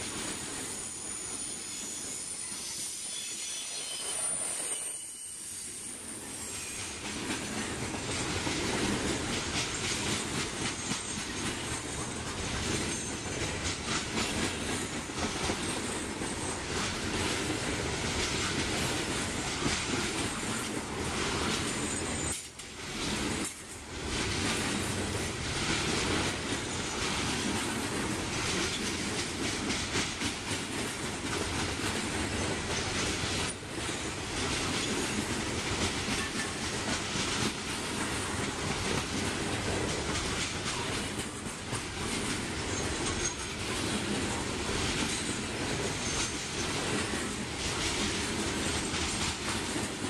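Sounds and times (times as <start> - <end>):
freight train rumbling past: 0.0 - 50.0
train wheels clacking over rail joints: 6.6 - 50.0.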